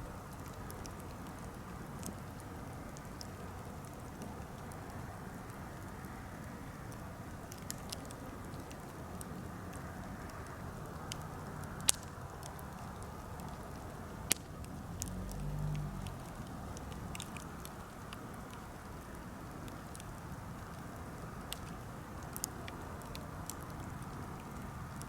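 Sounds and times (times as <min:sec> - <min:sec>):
campfire crackling: 0:00.0 - 0:25.0
fire popping: 0:00.0 - 0:25.0.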